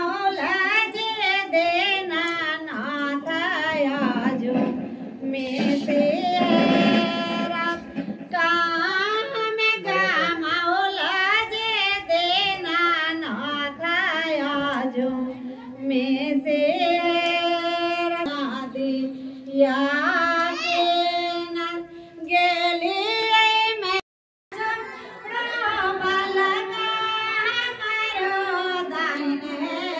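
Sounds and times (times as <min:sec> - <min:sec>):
woman singing devotional song: 0:00.0 - 0:29.9.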